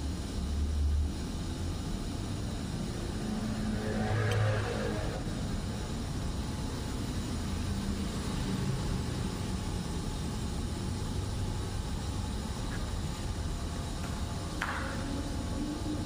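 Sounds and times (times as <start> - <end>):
even hiss: 0.0 - 16.0
low mechanical rumble: 0.0 - 16.0.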